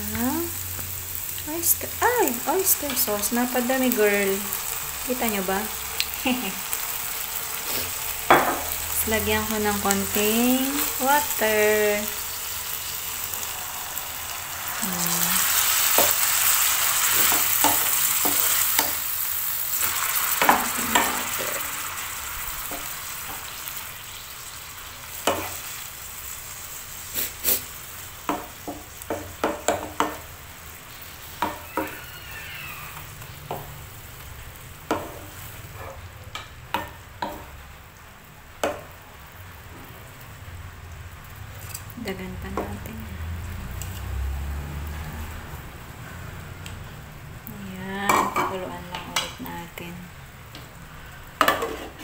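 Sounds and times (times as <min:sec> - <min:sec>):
loud sizzle in pan: 0:00.0 - 0:52.0.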